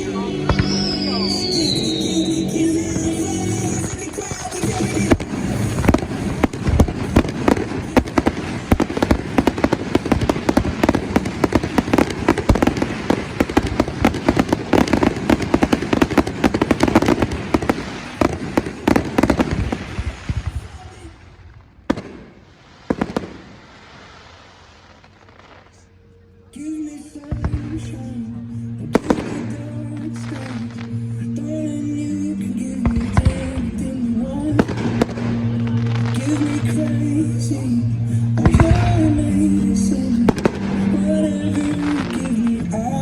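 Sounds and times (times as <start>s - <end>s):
fireworks bangs and crackling: 0.0s - 25.9s, 26.6s - 43.0s.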